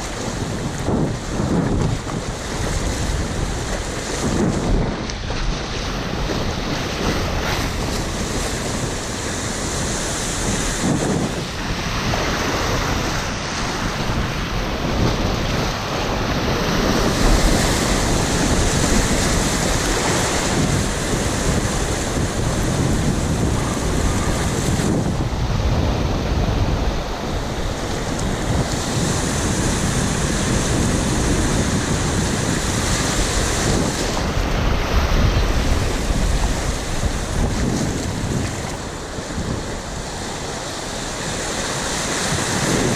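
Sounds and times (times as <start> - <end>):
river water rushing: 0.0 - 42.9
wind buffeting microphone: 0.0 - 42.9.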